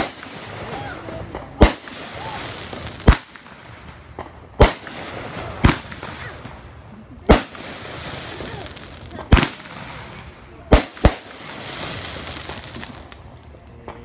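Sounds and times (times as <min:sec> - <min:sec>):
firework bangs: 0:00.0 - 0:14.0.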